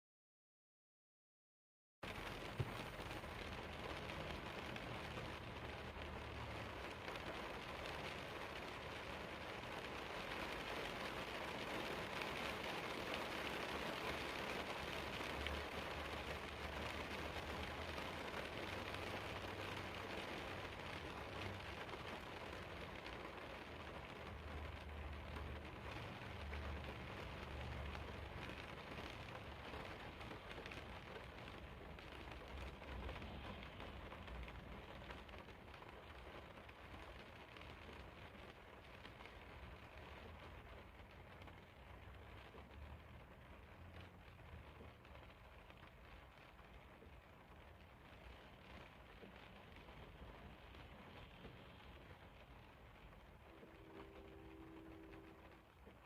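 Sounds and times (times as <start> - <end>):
steady rain hiss: 2.1 - 56.0.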